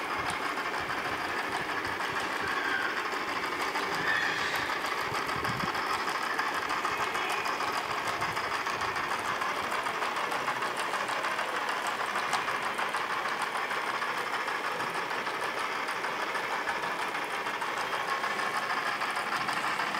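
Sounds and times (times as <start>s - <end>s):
plastic gears clicking: 0.0s - 19.9s
toy motor whirring: 0.0s - 19.9s.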